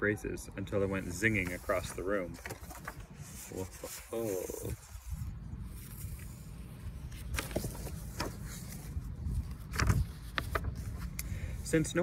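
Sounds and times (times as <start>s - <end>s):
paper pages turning: 0.8s - 11.3s.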